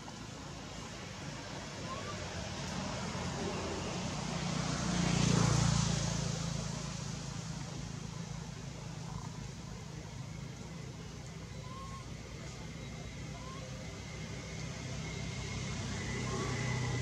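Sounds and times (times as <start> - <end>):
motor vehicle passing by: 0.5 - 17.0.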